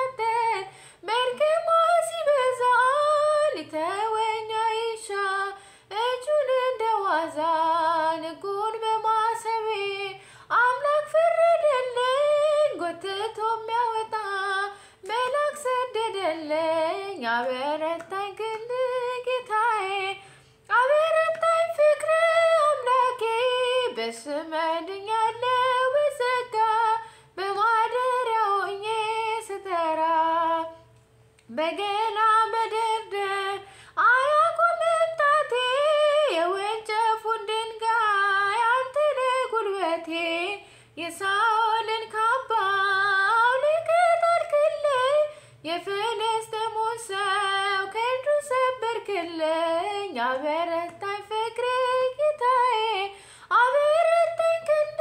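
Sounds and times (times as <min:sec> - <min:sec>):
woman singing unaccompanied: 0:00.0 - 0:55.0.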